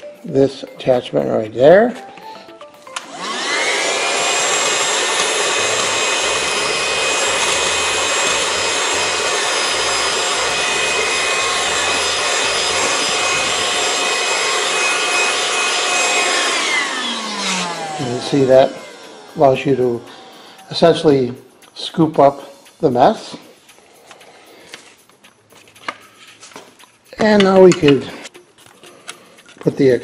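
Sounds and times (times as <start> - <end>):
handheld vacuum whining: 2.2 - 29.8.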